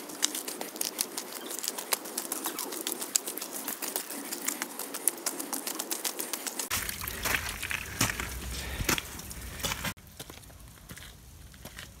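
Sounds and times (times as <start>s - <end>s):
rain pattering: 0.0s - 11.4s.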